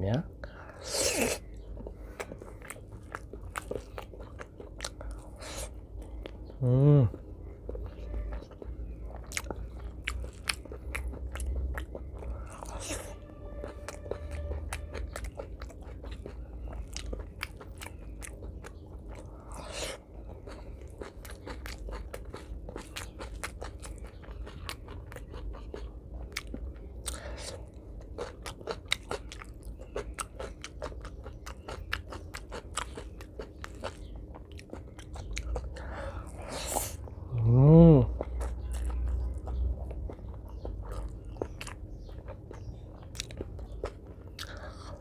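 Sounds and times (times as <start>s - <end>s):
person chewing with wet clicks: 0.1s - 37.4s, 38.1s - 45.0s.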